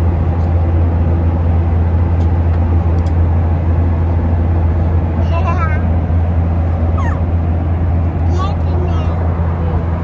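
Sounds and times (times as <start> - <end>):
airliner cabin drone: 0.0 - 10.0.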